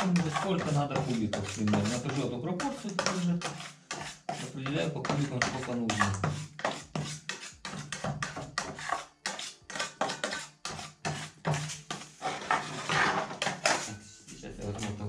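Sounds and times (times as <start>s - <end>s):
spatula scraping plastic tray: 0.0s - 14.0s.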